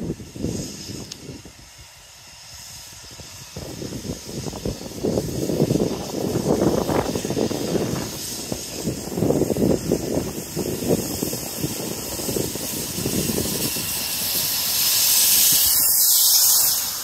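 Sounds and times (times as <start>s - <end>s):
steam hissing: 0.0s - 17.0s
steam locomotive exhaust beats: 0.0s - 17.0s.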